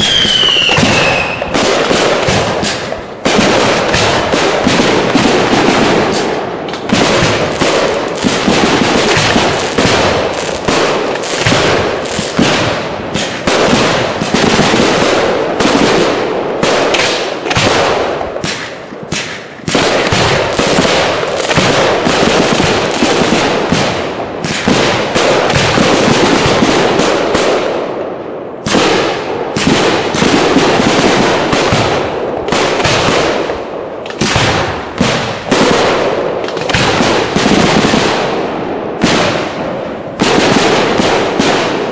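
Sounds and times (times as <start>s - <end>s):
fireworks bangs and crackle: 0.0s - 41.9s.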